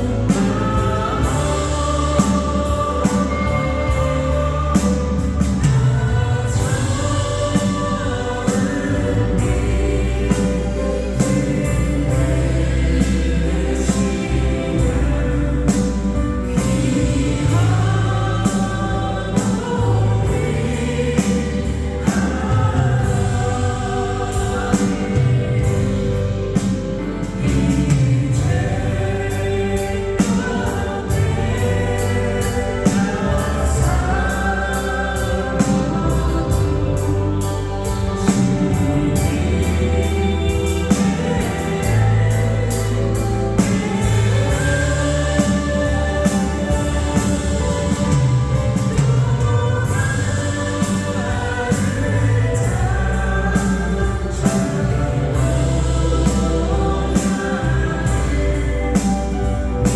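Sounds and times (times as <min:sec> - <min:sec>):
band accompaniment: 0:00.0 - 0:59.9
group singing a praise song: 0:00.0 - 0:59.9.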